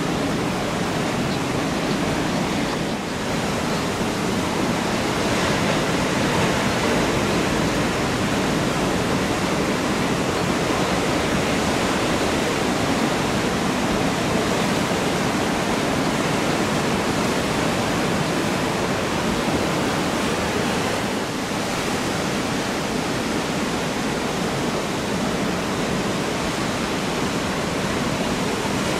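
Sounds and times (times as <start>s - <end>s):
ocean surf washing: 0.0s - 28.9s.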